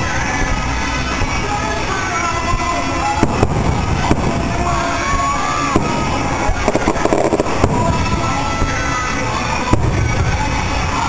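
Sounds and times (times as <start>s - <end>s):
firework bangs: 0.0s - 11.0s
loud music: 0.0s - 11.0s.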